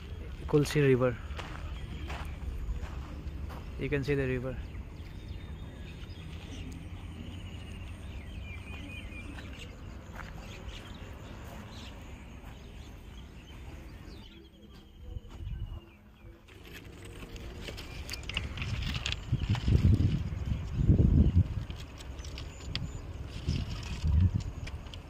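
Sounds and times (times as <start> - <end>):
low steady rumble: 0.0 - 25.0
small birds trilling: 0.0 - 25.0.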